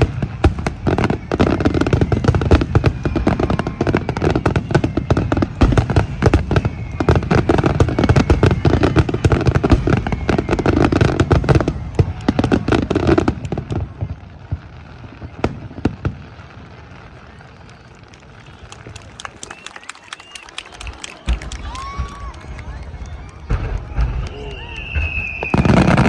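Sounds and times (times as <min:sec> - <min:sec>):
scattered firework pops: 0:00.0 - 0:26.0.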